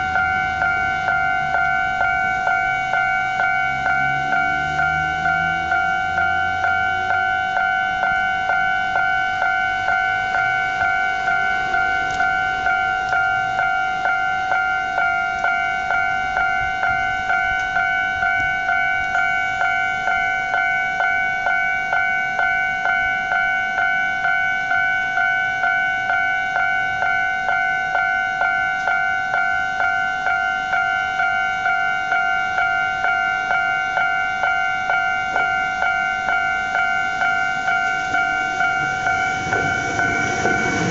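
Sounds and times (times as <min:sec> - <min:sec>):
level crossing warning bell: 0:00.0 - 0:40.9.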